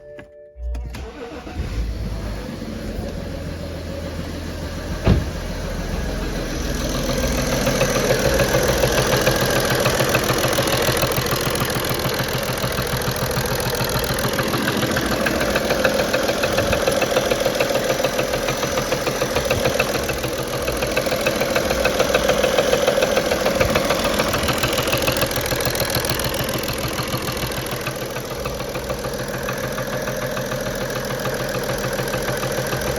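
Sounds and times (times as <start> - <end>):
diesel engine starting and idling: 0.2 - 32.9
rapid engine knock: 4.2 - 32.9.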